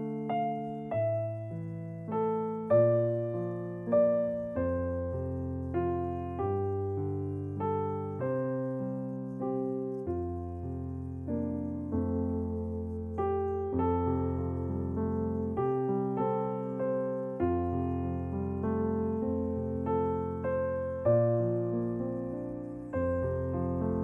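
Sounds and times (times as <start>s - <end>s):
slow solo piano: 0.0s - 24.0s.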